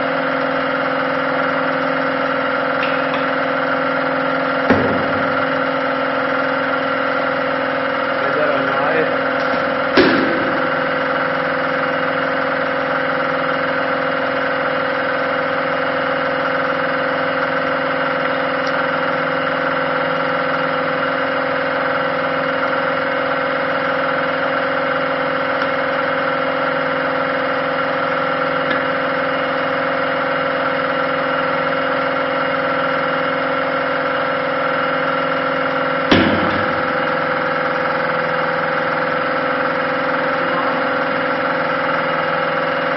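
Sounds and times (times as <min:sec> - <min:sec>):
hydraulic power unit running: 0:00.0 - 0:42.9.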